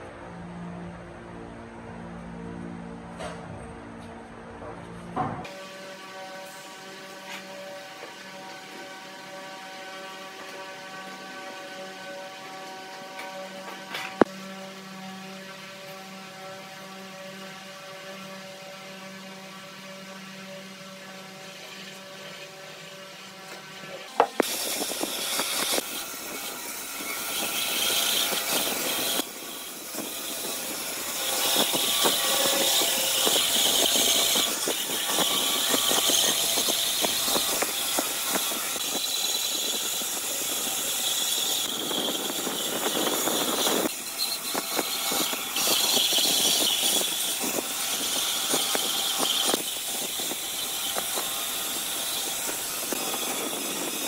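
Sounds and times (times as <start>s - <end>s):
power tools grinding wood: 5.4s - 54.0s.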